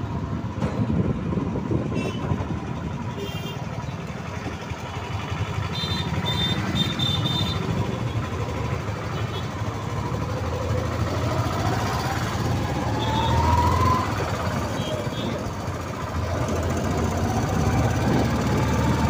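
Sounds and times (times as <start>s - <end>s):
rickshaw running noise and road rumble: 0.0s - 19.0s
traffic: 0.0s - 19.0s.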